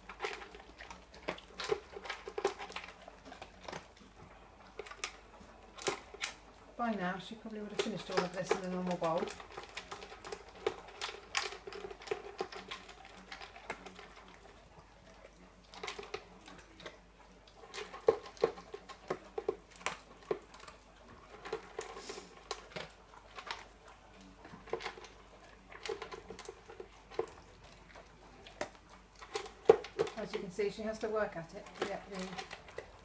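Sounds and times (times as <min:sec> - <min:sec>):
dog crunching dry kibble: 0:00.0 - 0:33.0.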